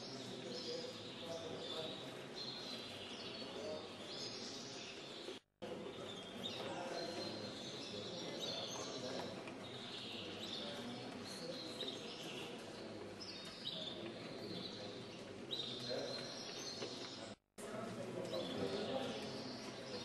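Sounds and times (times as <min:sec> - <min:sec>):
finches and canaries chirping: 0:00.0 - 0:17.4
background murmur: 0:00.0 - 0:20.0.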